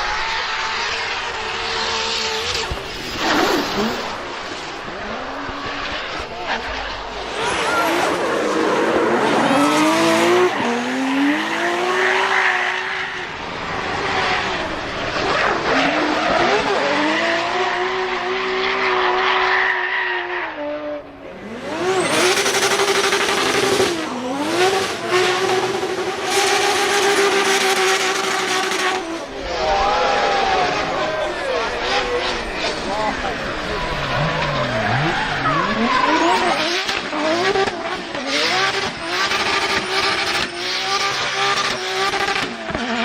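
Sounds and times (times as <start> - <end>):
car engine revving high: 0.1 - 19.5, 20.6 - 43.0.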